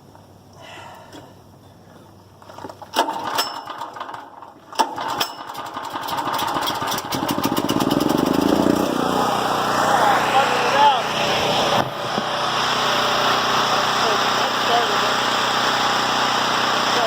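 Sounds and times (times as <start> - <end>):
generator engine running: 0.3 - 17.0
starter rope pulls: 2.4 - 17.0.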